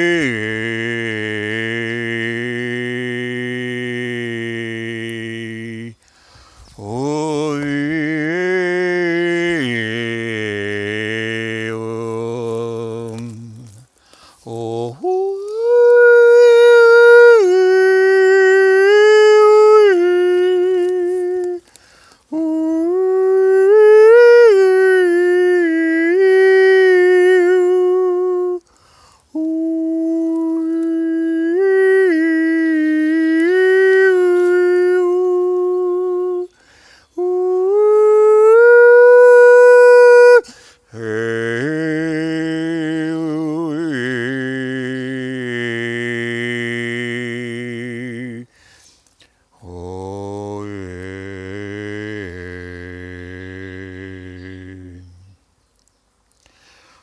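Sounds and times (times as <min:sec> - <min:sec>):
man singing held notes: 0:00.0 - 0:48.6, 0:49.2 - 0:55.5.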